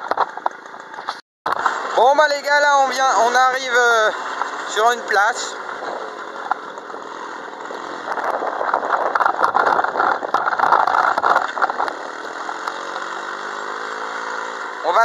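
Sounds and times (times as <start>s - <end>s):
moped engine rattling and idling: 0.0s - 15.0s.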